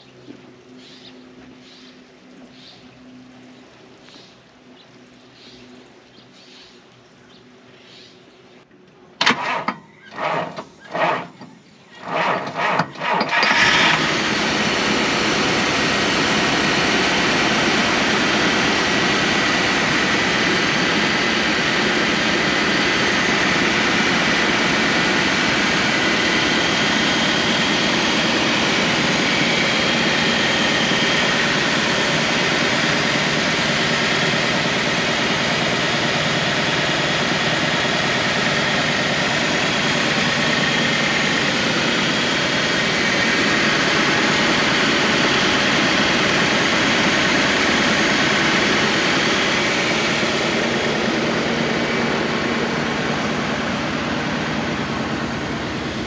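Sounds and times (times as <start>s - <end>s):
car engine idling: 8.8s - 56.0s
starter motor cranking: 9.2s - 56.0s.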